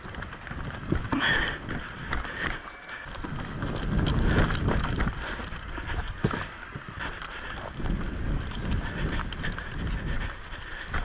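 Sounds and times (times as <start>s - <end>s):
footsteps on overgrown ground: 0.0s - 11.0s
gear rustling: 0.0s - 11.0s
wind on microphone: 0.0s - 11.0s.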